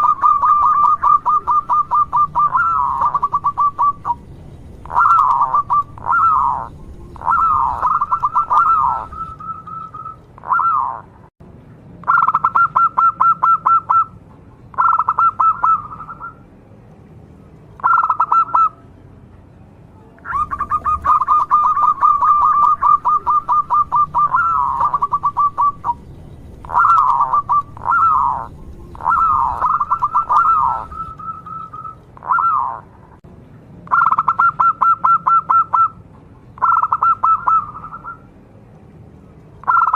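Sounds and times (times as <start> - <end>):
dove cooing trills: 0.0 - 11.3, 12.0 - 16.4, 17.8 - 18.8, 20.2 - 33.0, 33.9 - 36.0, 36.6 - 38.3, 39.6 - 39.9.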